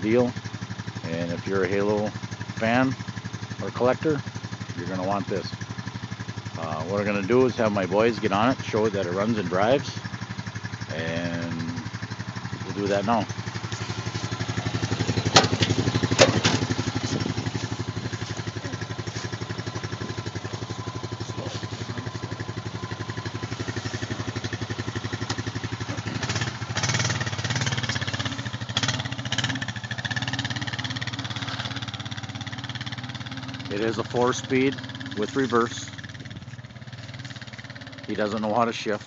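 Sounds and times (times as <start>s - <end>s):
atv engine running: 0.0s - 39.0s.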